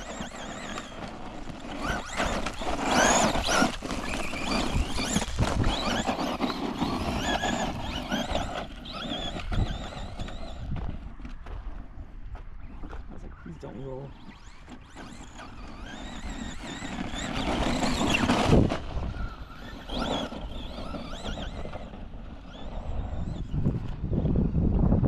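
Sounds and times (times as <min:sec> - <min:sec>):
rough rushing noise: 0:00.0 - 0:11.8, 0:12.7 - 0:24.1
rc car motor whining: 0:00.0 - 0:25.0.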